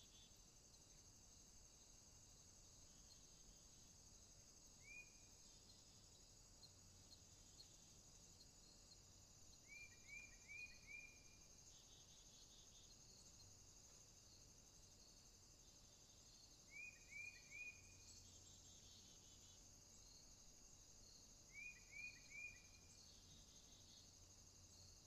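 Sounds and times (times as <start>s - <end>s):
high insect trill: 0.0s - 25.0s.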